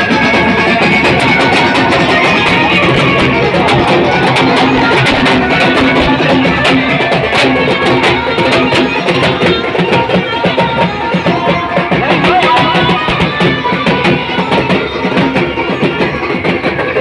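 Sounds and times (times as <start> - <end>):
drums beating fast rhythm: 0.0 - 17.0.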